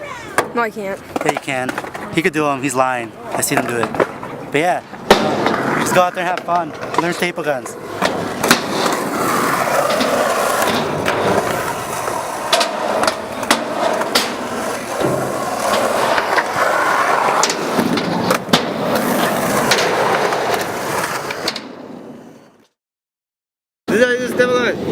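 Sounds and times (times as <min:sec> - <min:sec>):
skateboard wheels rolling: 0:00.0 - 0:22.7
skateboard clacking: 0:00.3 - 0:02.3, 0:03.1 - 0:21.7.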